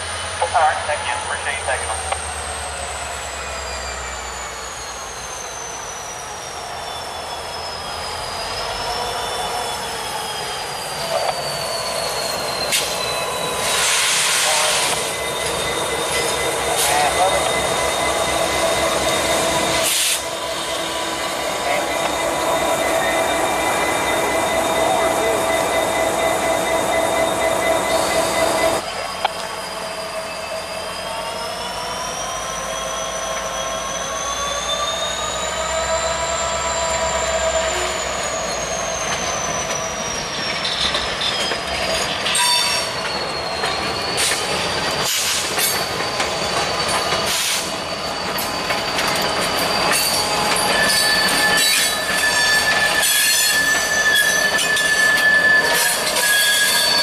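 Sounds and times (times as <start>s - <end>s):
train wheels squealing on rail: 0.0s - 57.0s.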